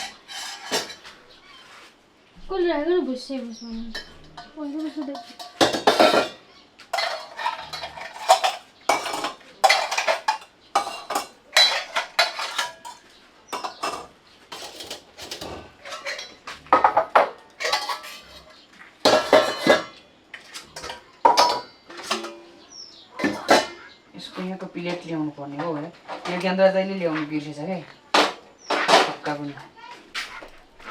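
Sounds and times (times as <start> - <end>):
metal utensils clattering on cookware: 0.0 - 1.4, 3.9 - 24.0, 24.7 - 26.7, 28.0 - 29.4.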